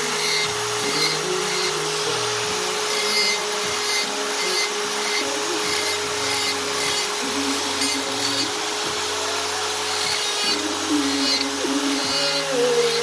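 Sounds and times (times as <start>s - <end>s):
die grinder whining into wood: 0.0s - 13.0s.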